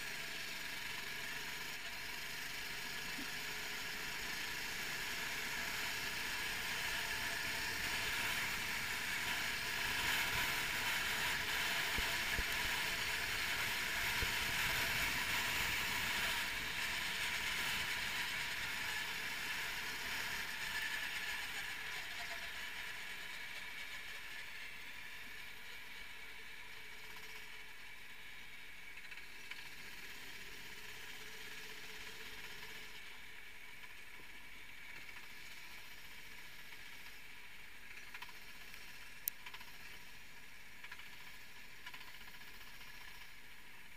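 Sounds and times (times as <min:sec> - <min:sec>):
kart engine running: 0:00.0 - 0:43.9.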